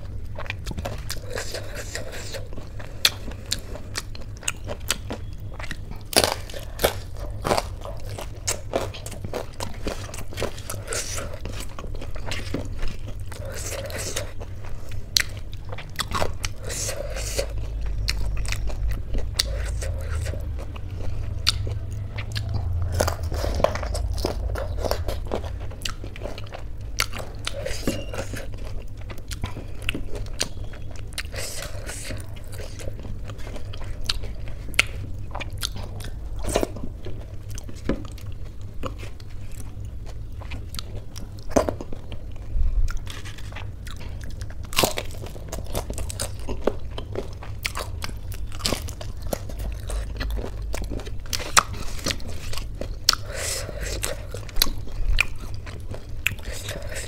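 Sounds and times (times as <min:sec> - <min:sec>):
person chewing with crunchy clicks: 0:00.0 - 0:57.0
steady low hum: 0:00.0 - 0:57.0.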